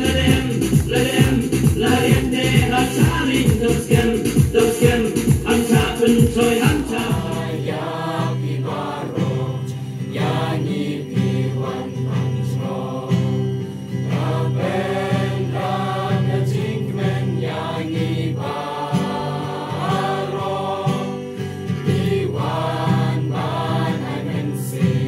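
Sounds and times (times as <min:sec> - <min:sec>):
group singing in chorus: 0:00.0 - 0:25.0
strummed acoustic guitar: 0:00.0 - 0:25.0.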